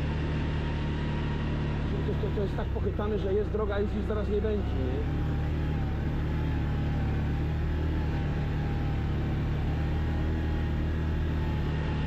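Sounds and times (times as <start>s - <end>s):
quad engine running: 0.0s - 12.0s.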